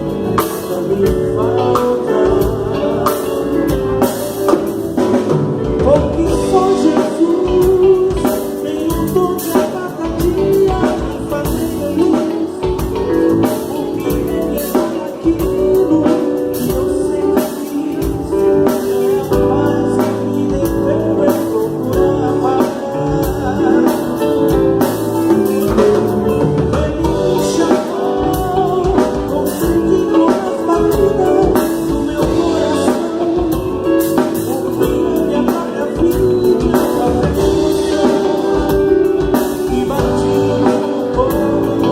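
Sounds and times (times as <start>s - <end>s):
drum kit: 0.0s - 41.9s
guitar: 0.0s - 41.9s
person singing: 0.0s - 41.9s.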